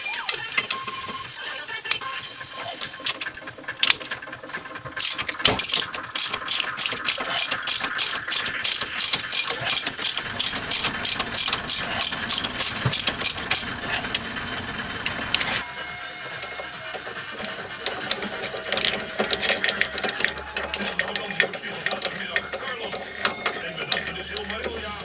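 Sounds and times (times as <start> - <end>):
socket ratchet clicking: 0.0 - 15.7, 16.3 - 25.0.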